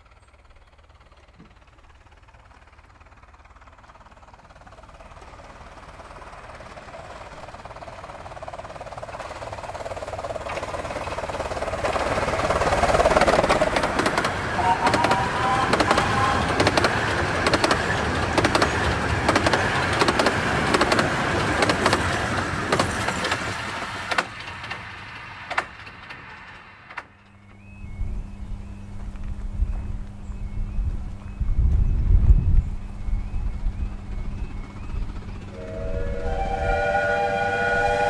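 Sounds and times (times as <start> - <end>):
miniature steam train passing: 0.0 - 38.0.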